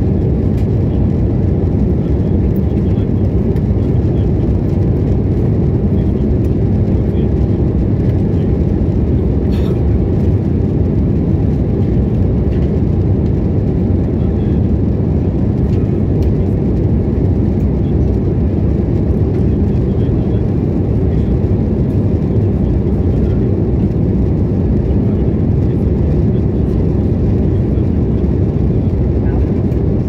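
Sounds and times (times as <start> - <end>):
aircraft engine rumble: 0.0 - 30.0.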